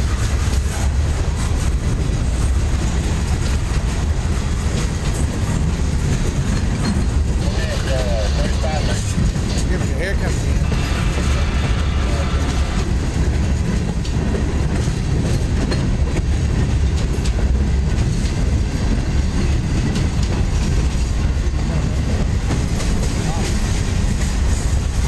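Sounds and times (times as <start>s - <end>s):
freight train rumble: 0.0s - 25.0s
wheels clacking over rail joints: 0.0s - 25.0s.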